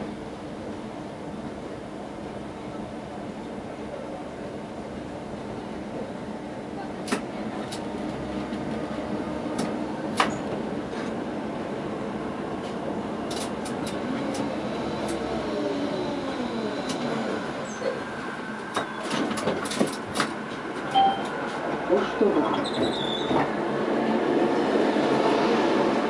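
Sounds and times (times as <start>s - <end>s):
tram electric drive whining: 0.0s - 26.0s.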